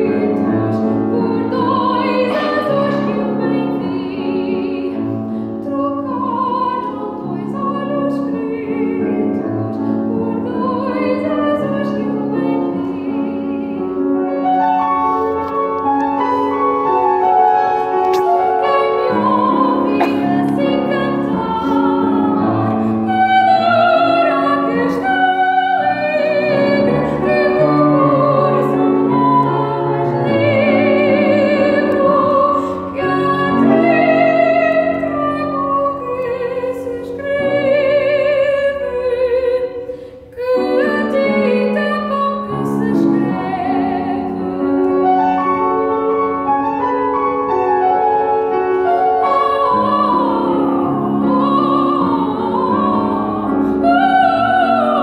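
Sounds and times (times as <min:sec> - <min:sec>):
grand piano: 0:00.0 - 0:55.0
woman singing classical aria: 0:00.0 - 0:55.0.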